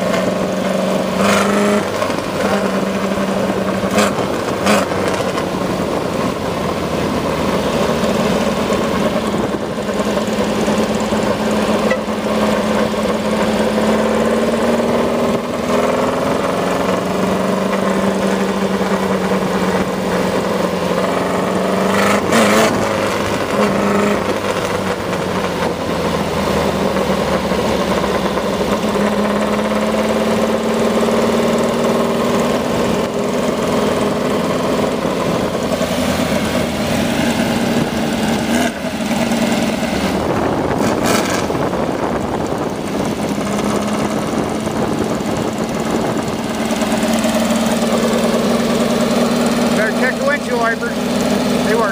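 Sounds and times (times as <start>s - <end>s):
buggy engine running: 0.0s - 51.9s.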